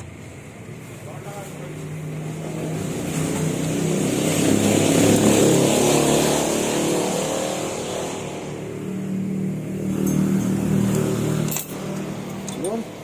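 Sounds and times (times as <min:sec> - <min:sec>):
vehicle engine passing by: 0:01.4 - 0:12.5.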